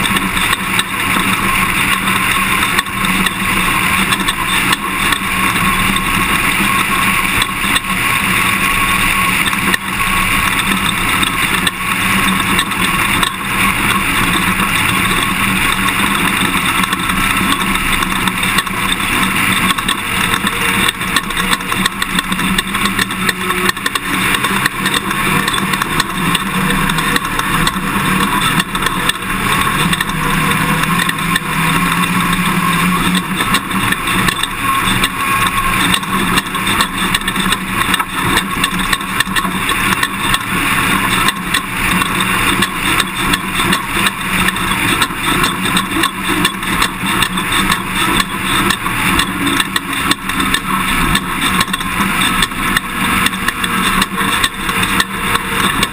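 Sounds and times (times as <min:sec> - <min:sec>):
knocks and rattles: 0:00.0 - 0:55.9
truck engine and road drone: 0:00.0 - 0:55.9.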